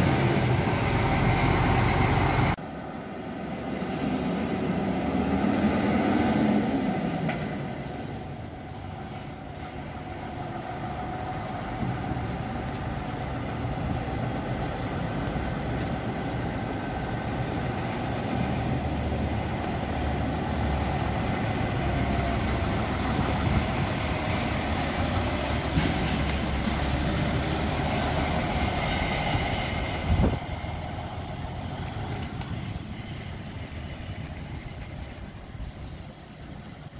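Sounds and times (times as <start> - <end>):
diesel truck engine driving off: 0.0 - 36.9.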